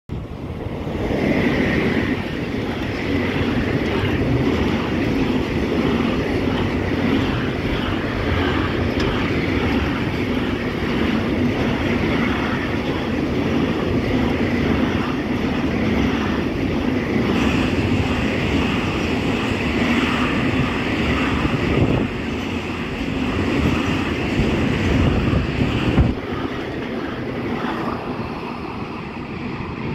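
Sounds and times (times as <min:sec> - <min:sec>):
train wheels rumbling on rails: 0:00.1 - 0:29.9.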